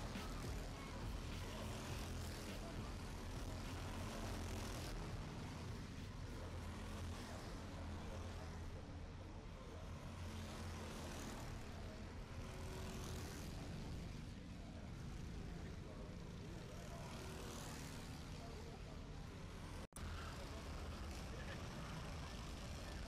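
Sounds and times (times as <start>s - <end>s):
kart engines passing: 0.0s - 23.0s.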